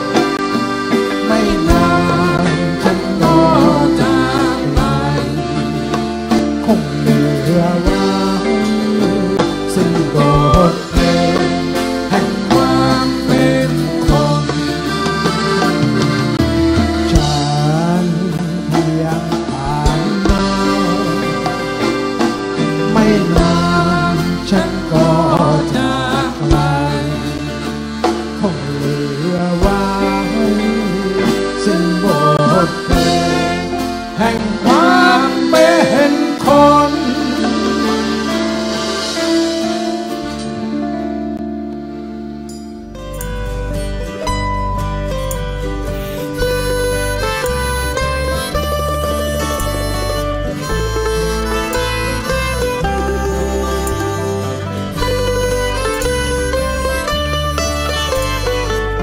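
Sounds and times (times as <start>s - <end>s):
drum kit: 0.0s - 59.0s
gliding melody line: 0.0s - 59.0s
guitar: 0.0s - 59.0s.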